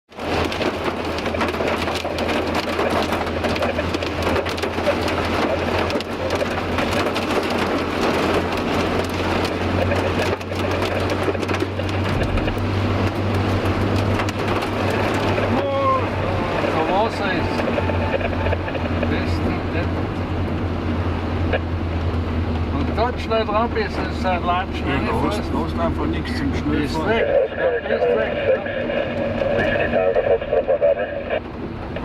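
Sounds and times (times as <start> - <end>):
engine and road drone: 0.1 - 32.0
rain patter on vehicle: 0.1 - 32.0.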